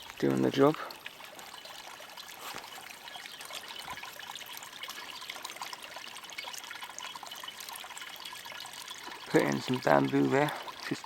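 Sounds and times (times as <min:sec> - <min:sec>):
small waterfall trickling: 0:00.0 - 0:11.0.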